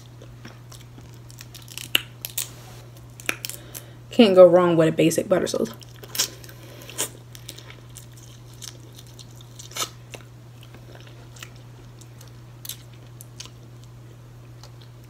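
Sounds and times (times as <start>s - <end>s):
person chewing and smacking: 0.0s - 3.9s, 5.8s - 15.0s
steady low hum: 0.0s - 15.0s.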